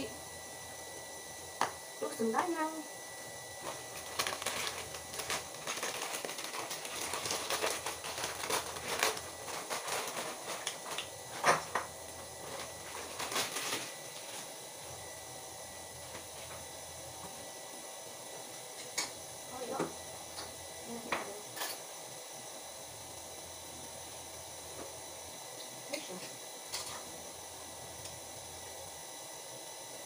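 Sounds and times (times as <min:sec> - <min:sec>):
faint steady high whine: 0:00.0 - 0:30.0.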